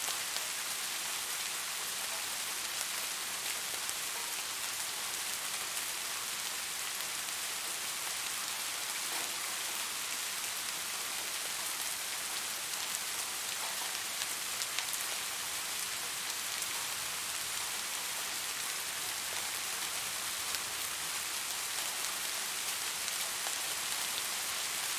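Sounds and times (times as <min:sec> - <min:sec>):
steady rain hiss: 0:00.0 - 0:24.9.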